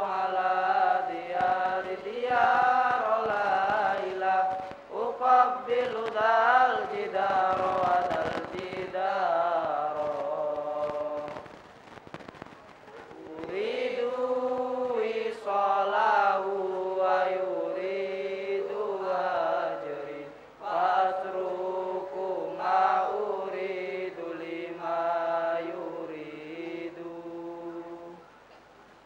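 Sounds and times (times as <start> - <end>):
men chanting in unison: 0.0 - 11.4, 13.2 - 28.2.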